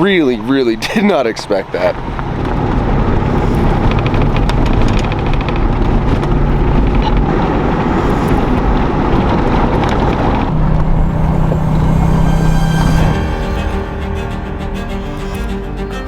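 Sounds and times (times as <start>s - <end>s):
wind buffeting microphone: 0.0s - 15.6s
truck engine and tyre rumble: 0.0s - 16.0s.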